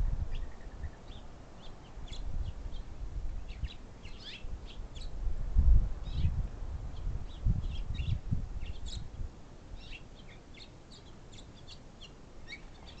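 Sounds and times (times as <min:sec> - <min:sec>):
songbirds chirping and singing: 0:00.0 - 0:05.2, 0:06.0 - 0:13.0.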